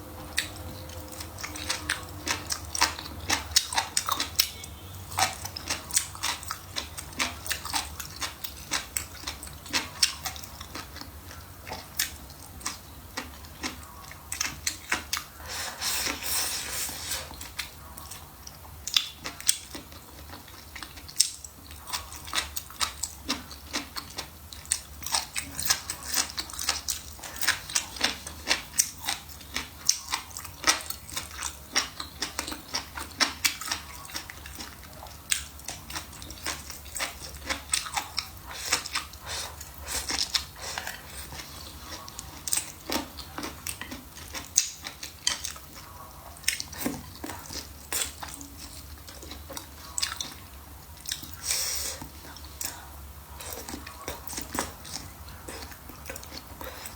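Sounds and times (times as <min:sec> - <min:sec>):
chewing and biting: 0:00.2 - 0:16.5, 0:17.2 - 0:56.9.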